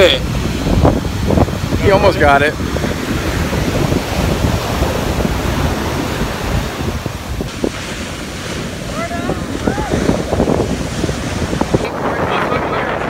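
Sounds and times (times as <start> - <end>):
ocean surf washing on shore: 0.0 - 13.0
wind buffeting microphone: 0.0 - 13.0.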